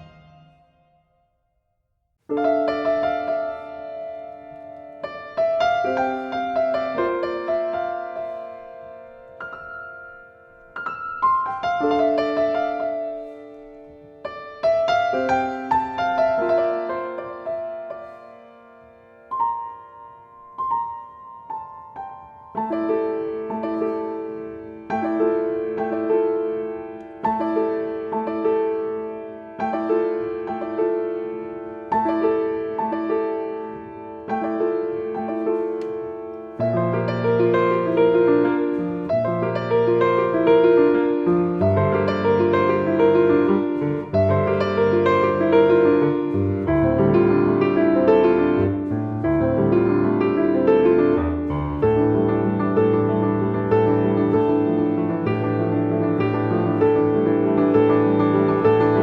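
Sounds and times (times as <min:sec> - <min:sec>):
gentle solo piano: 0:02.3 - 0:59.0.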